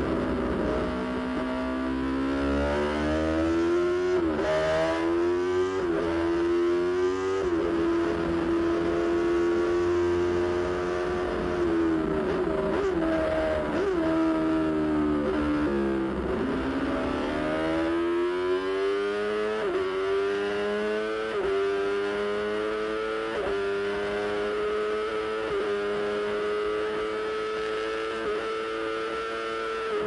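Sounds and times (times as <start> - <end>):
racing motorcycle engine revving: 0.0 - 30.0.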